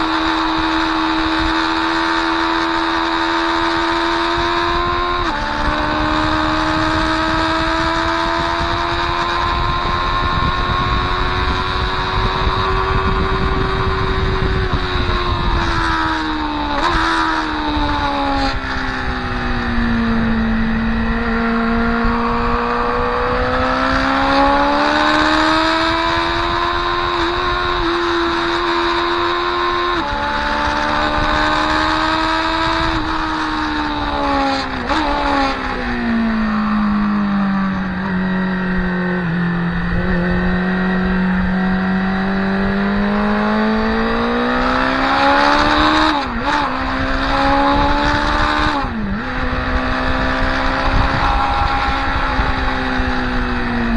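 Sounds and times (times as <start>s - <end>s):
motorcycle engine at speed: 0.0s - 53.9s
wind rush on microphone: 0.0s - 53.9s.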